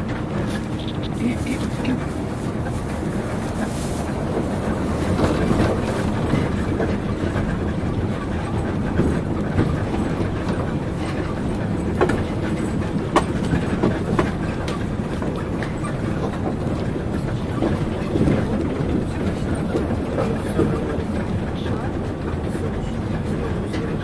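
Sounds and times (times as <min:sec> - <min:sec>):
monorail car rumble: 0:00.0 - 0:24.0
passing train rush: 0:00.0 - 0:24.0.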